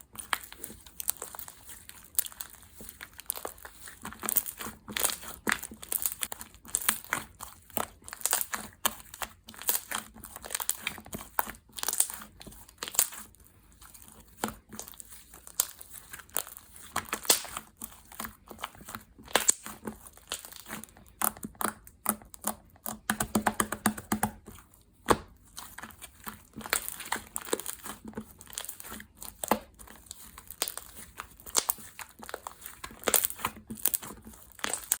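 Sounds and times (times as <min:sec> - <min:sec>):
slime squished by hand: 0:00.0 - 0:35.0.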